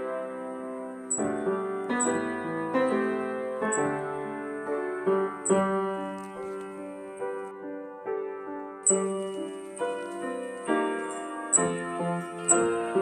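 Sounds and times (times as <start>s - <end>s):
piano playing chords: 0.0s - 13.0s.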